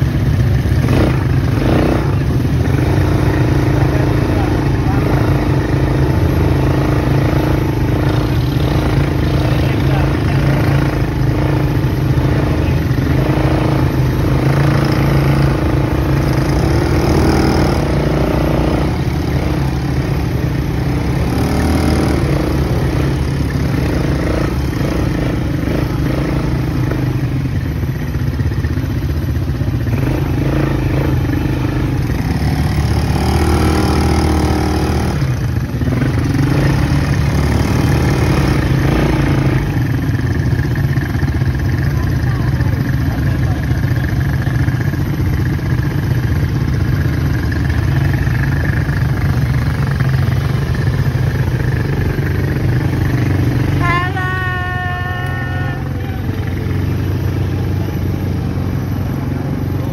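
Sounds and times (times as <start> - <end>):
atv engine revving under load: 0.0 - 59.9.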